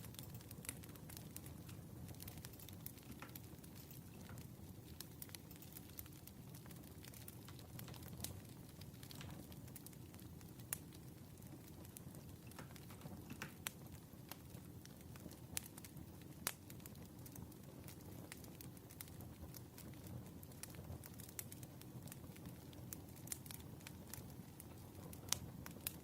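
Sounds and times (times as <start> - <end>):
low fire rumble: 0.0 - 26.0
wood fire crackling and popping: 0.0 - 26.0.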